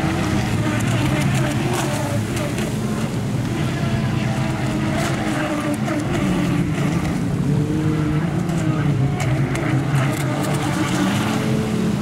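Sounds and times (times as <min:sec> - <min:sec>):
boat motor running: 0:00.0 - 0:12.0
water splashing: 0:00.0 - 0:12.0
wind: 0:00.0 - 0:12.0.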